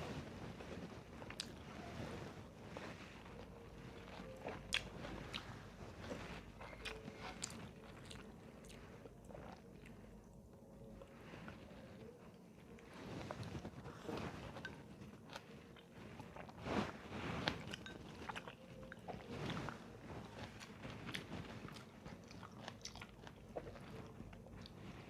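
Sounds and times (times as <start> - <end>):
person chewing food: 0.1 - 25.0.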